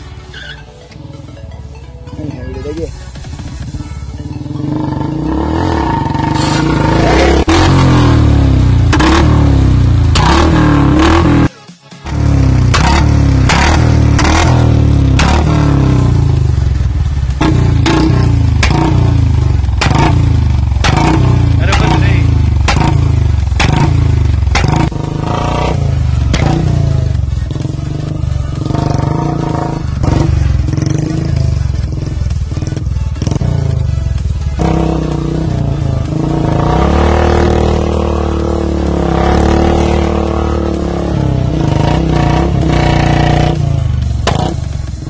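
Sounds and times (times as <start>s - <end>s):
motorcycle engine revving: 3.0s - 11.5s, 12.1s - 45.0s
exhaust cracks: 5.5s - 11.5s, 12.1s - 28.0s, 28.6s - 45.0s.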